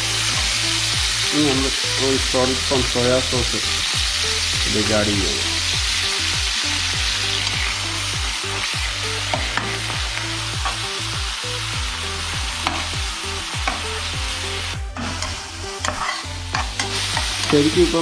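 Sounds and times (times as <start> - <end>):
chicken sizzling in a pan: 0.0 - 18.0
soft background music: 0.0 - 18.0.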